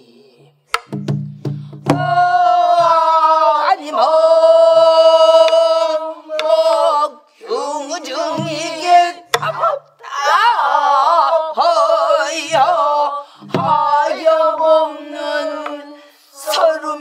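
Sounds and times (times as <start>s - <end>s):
group singing in unison: 1.8s - 17.0s.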